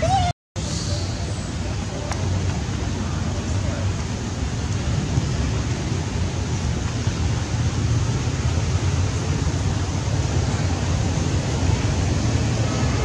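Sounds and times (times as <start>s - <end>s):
wind buffeting microphone: 0.7s - 13.0s.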